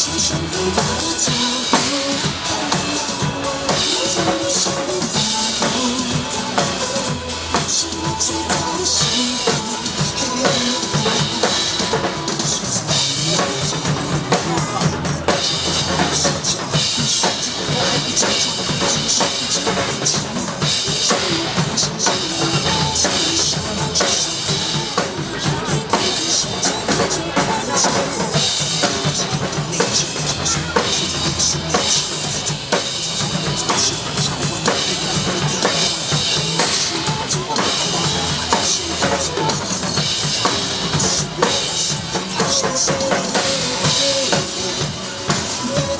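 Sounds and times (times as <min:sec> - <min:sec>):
drum kit groove: 0:00.0 - 0:45.9
recorded backing music: 0:00.0 - 0:45.9.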